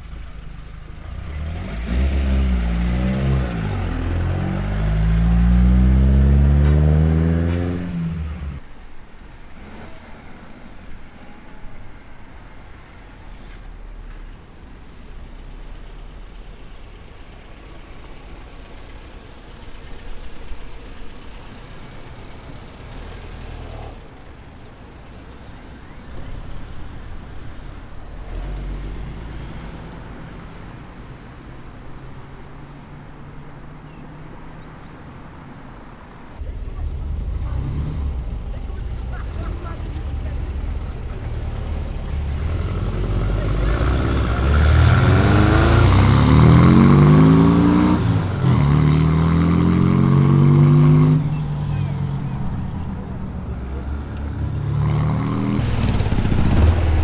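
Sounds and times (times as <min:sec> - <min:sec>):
car engines driving slowly: 0:00.0 - 0:57.0.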